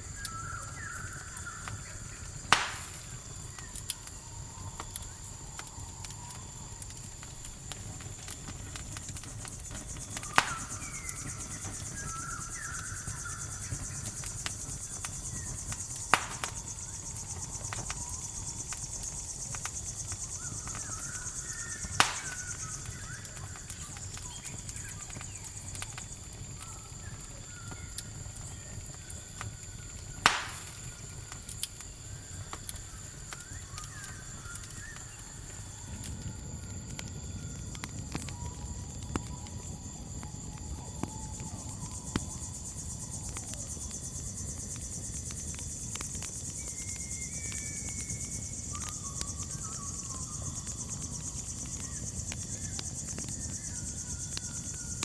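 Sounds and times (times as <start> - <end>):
campfire crackling: 0.0 - 55.0
crickets chirping: 0.0 - 55.0
low rumble of fire: 0.0 - 55.0
loud sharp fire pops: 0.1 - 55.0.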